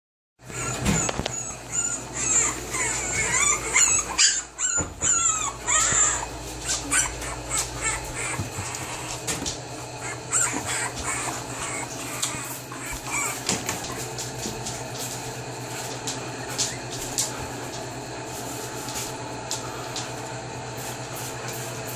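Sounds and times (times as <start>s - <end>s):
puppies squeaking and whimpering: 0.4s - 19.1s.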